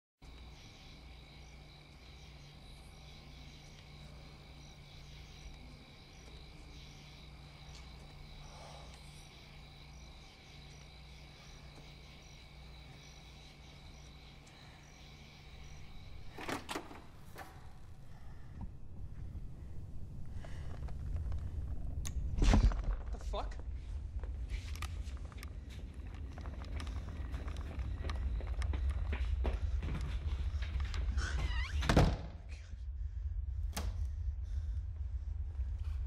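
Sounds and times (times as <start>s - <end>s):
crickets chirping: 0.2s - 36.0s.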